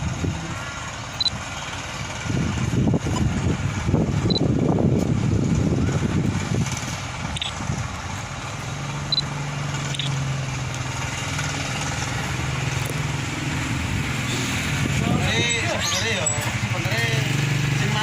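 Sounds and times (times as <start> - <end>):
motor engine running steadily: 0.0 - 18.0.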